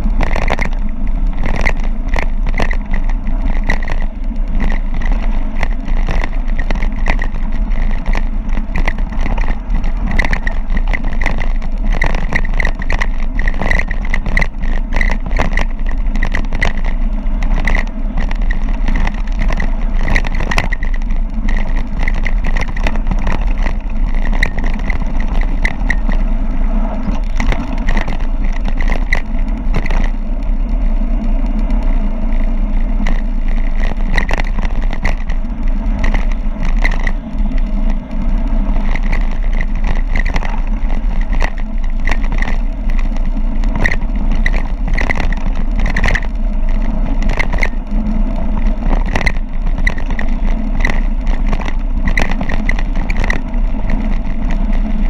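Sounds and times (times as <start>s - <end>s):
bike rattling: 0.0s - 55.0s
wind noise: 0.0s - 55.0s.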